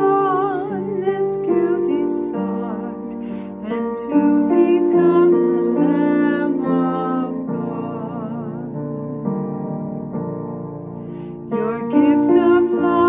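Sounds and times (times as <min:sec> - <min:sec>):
woman singing with vibrato: 0:00.0 - 0:09.4, 0:11.5 - 0:13.0.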